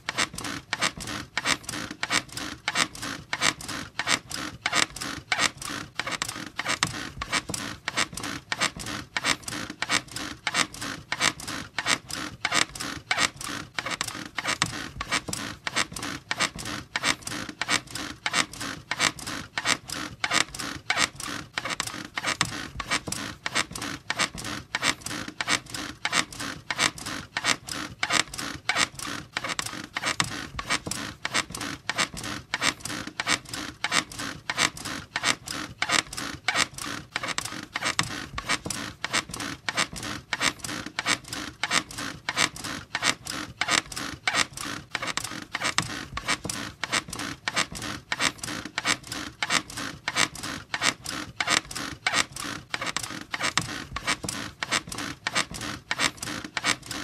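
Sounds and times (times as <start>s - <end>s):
bed squeaking rhythmically: 0.0s - 57.0s.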